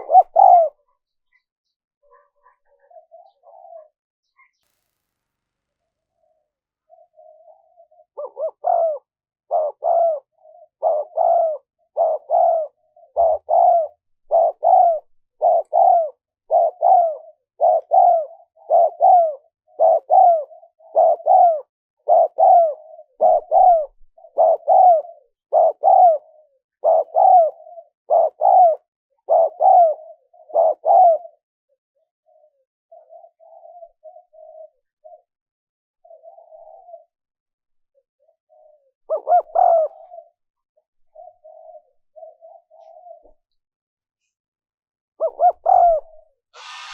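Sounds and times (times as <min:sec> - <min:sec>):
dove cooing: 0:00.0 - 0:01.0, 0:02.0 - 0:04.0, 0:06.8 - 0:35.4, 0:36.0 - 0:37.3, 0:37.9 - 0:43.4, 0:45.2 - 0:46.9.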